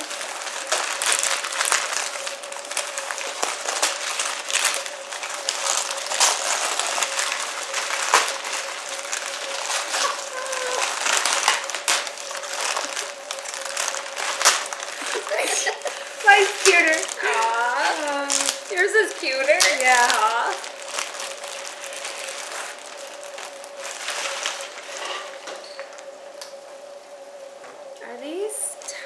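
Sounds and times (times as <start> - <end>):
gift paper rustling and tearing: 0.0 - 26.1.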